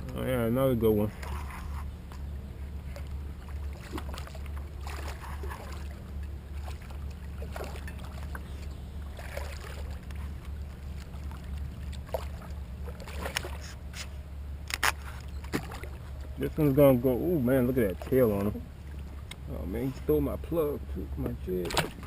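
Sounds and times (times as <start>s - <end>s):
water splashes: 0.0s - 1.8s, 2.6s - 22.0s
steady low hum: 0.0s - 22.0s.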